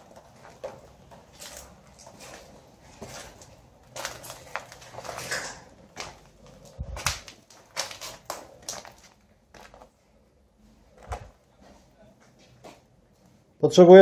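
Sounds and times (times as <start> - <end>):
footsteps crunching on rubble: 0.0 - 10.0, 10.9 - 13.3.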